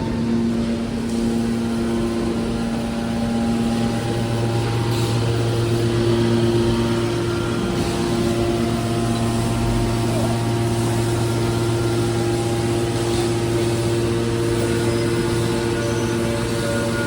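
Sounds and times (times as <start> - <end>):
hydraulic power unit humming: 0.0 - 17.0.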